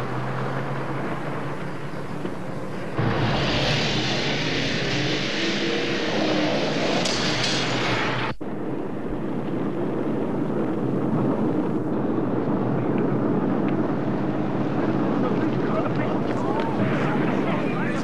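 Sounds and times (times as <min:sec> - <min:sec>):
rocket lift-off roar: 0:02.6 - 0:18.0.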